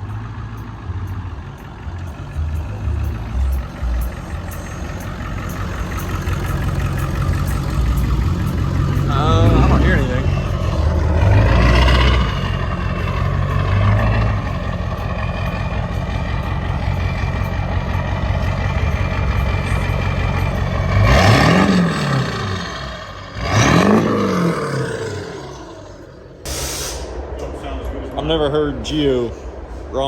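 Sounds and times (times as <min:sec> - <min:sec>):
engine revving: 0:00.0 - 0:29.6
engine rumbling: 0:00.0 - 0:30.0.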